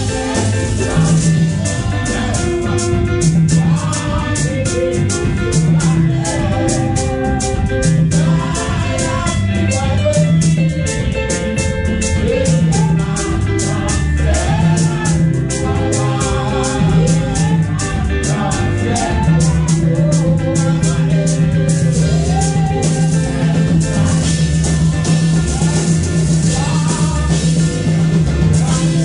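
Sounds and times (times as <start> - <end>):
guitar and bass: 0.0 - 29.0
voices singing gospel song: 0.0 - 29.0.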